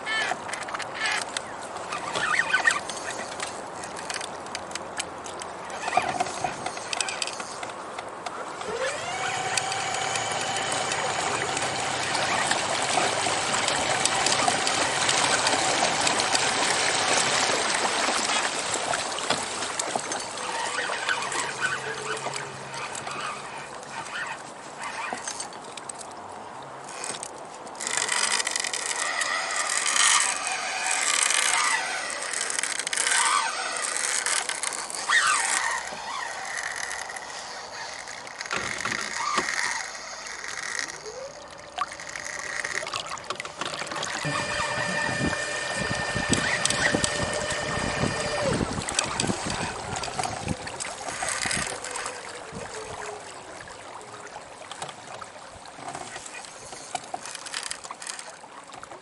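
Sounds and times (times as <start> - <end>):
clicks and knocks of fishing gear: 0.0 - 53.2, 55.8 - 59.0
water splashing along kayak hull: 0.0 - 59.0.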